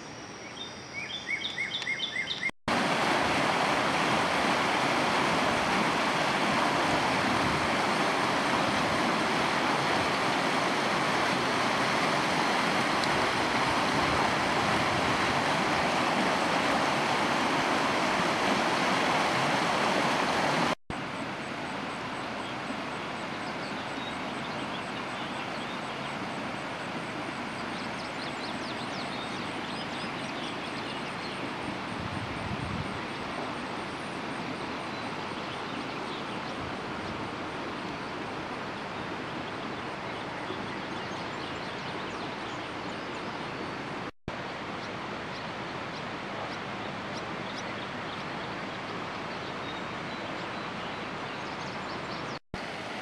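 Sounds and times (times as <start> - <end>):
steady outdoor hiss: 0.0 - 53.0
floodwater rushing down creek: 2.7 - 42.9, 43.5 - 51.8, 52.6 - 53.0.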